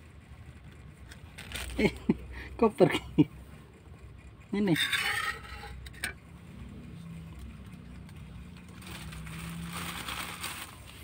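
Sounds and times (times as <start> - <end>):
faint vehicle engine hum: 0.0 - 11.0.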